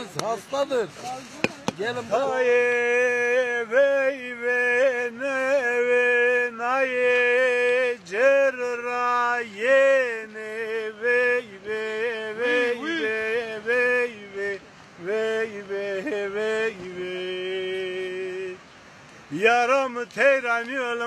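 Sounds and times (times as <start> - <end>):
man singing unaccompanied: 0.0 - 21.0.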